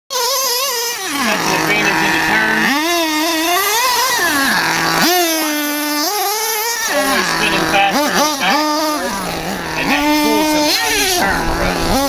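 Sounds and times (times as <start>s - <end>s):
small nitro engine revving: 0.1s - 12.0s.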